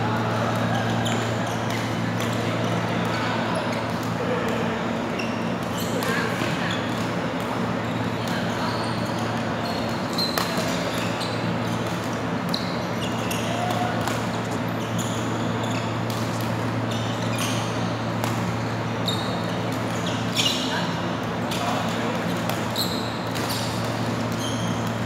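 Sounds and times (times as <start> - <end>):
shoes squeaking on court: 0.2 - 25.0.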